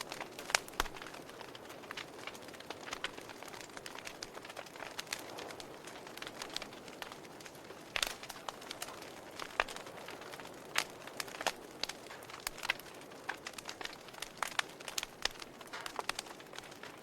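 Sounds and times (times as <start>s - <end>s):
soft steady hiss: 0.0s - 17.0s
wood fire crackling and popping: 0.0s - 17.0s.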